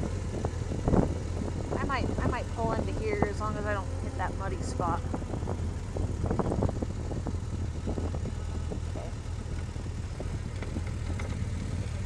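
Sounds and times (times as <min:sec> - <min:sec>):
constant rush of noise: 0:00.0 - 0:12.0
motorcycle engine droning: 0:00.0 - 0:12.0.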